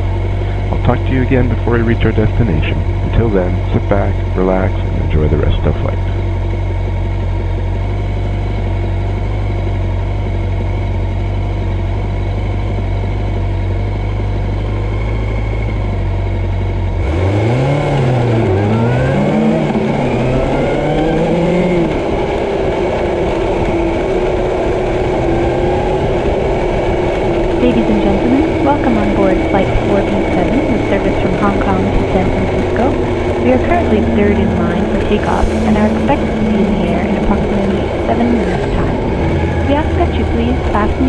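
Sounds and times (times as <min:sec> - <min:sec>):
engine revving: 0:00.0 - 0:41.0
low engine drone: 0:00.0 - 0:41.0.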